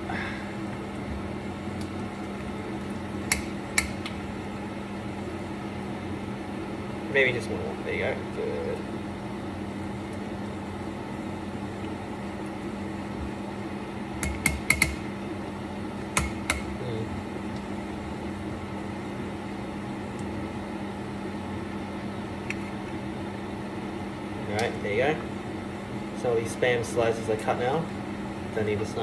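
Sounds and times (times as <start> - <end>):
kitchen appliance hum: 0.0 - 29.0.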